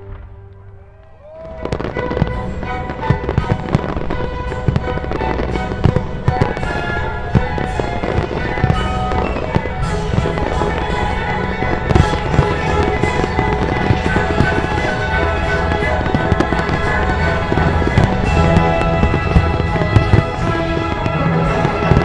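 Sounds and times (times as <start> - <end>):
background music: 0.0 - 22.0
fireworks bursting: 0.0 - 22.0.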